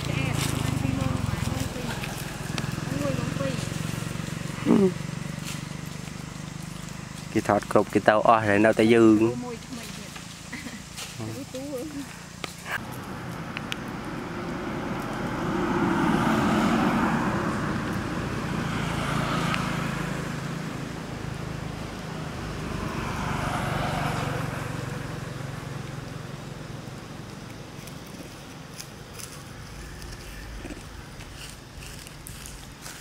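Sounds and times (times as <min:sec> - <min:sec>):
motorbike passing: 0:00.0 - 0:33.0
steady engine hum: 0:00.0 - 0:33.0
vehicle passing: 0:00.0 - 0:33.0.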